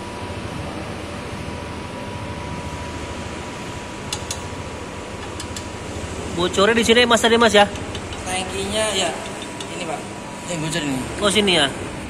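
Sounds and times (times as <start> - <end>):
whirring workshop noise: 0.0 - 12.0.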